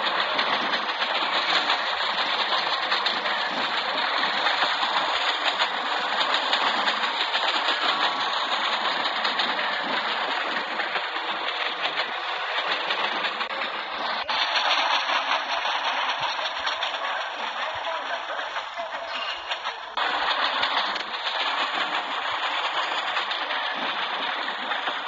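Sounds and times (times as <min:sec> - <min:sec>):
train mechanical noise: 0:00.0 - 0:25.0.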